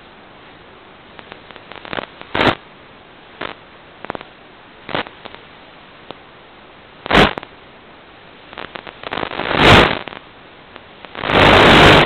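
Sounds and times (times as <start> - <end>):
static crackles and bursts: 0.0 - 12.0
static hiss: 0.0 - 12.0.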